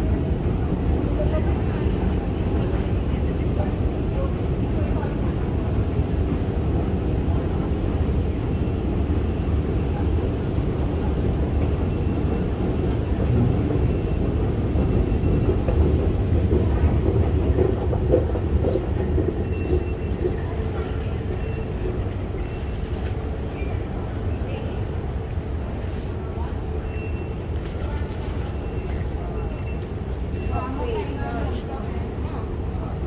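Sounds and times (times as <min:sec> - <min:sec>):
train rumble: 0:00.0 - 0:33.0.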